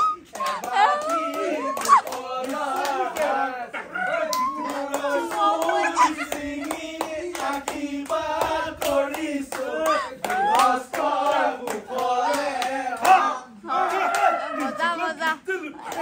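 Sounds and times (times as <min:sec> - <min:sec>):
group of voices singing: 0:00.0 - 0:16.0
rhythmic hand clapping: 0:00.0 - 0:16.0.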